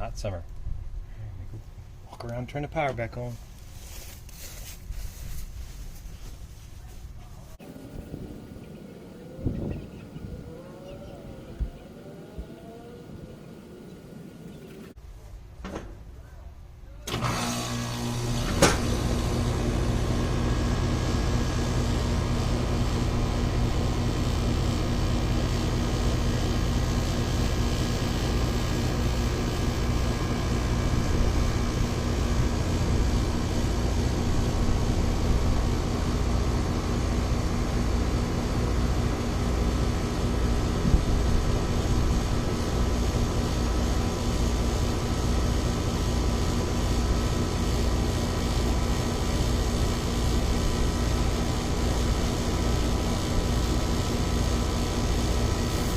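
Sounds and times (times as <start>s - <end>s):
condenser fan rushing air: 7.4s - 15.0s, 17.1s - 55.9s
compressor humming: 7.6s - 15.0s, 17.0s - 55.9s.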